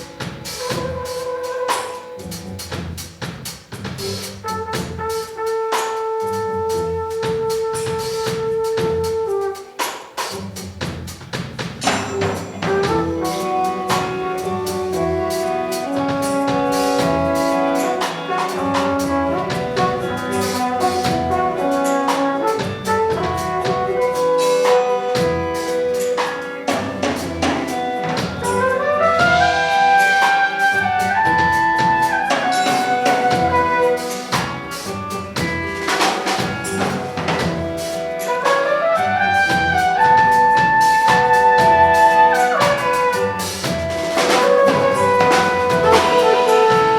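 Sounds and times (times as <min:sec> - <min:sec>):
brass band with drum kit: 0:00.0 - 0:46.9.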